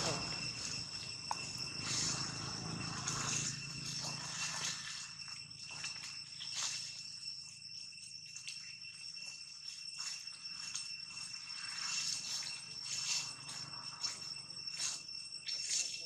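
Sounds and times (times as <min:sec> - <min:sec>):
insects shrilling: 0:00.0 - 0:16.0.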